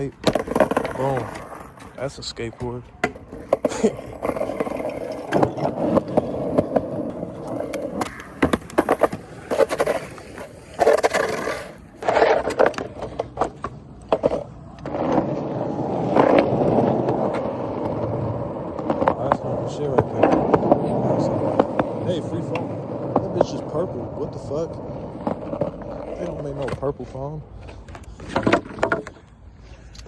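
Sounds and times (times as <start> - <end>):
skateboard clacking: 0.0 - 27.0, 27.6 - 29.3
skateboard wheels rolling on pavement: 0.0 - 30.0.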